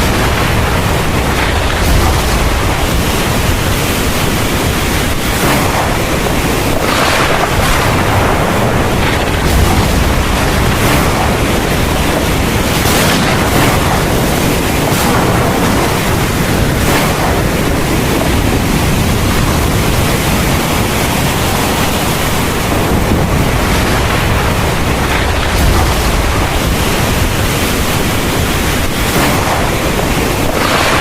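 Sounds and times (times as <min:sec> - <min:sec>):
deep thunder rumble: 0:00.0 - 0:31.0
heavy rain falling: 0:00.0 - 0:31.0.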